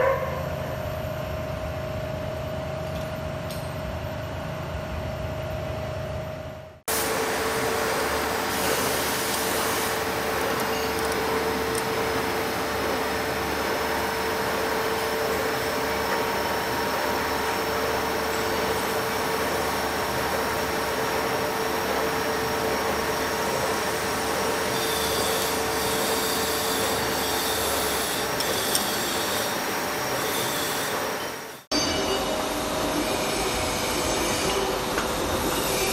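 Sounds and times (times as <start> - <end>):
machinery running hum: 0.0 - 35.9.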